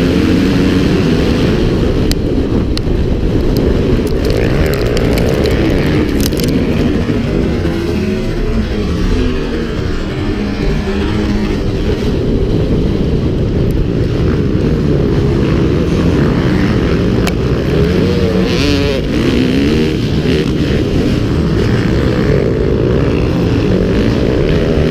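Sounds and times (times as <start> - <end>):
motorcycle engines revving: 0.0 - 24.9.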